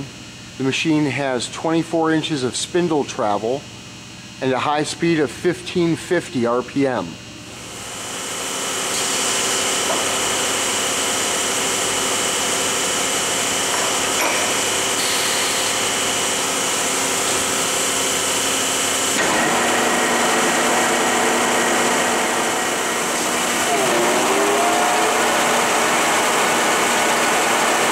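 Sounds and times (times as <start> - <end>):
boring mill whirring and whining: 0.0 - 27.9.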